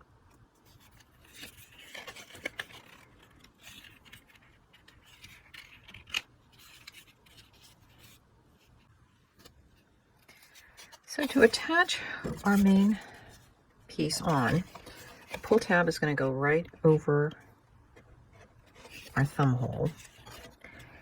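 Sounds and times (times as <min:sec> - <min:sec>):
cardstock scraping and rustling: 0:00.6 - 0:13.5, 0:14.1 - 0:15.8, 0:17.9 - 0:21.0.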